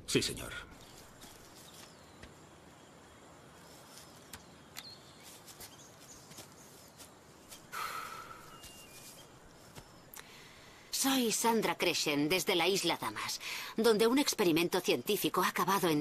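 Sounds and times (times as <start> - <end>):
faint bird chirps: 0.7 - 16.0.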